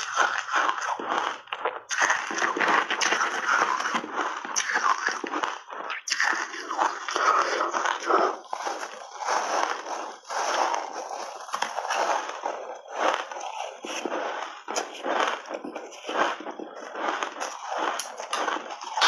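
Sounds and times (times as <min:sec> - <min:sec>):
chewing and crunching ice: 0:00.0 - 0:19.0.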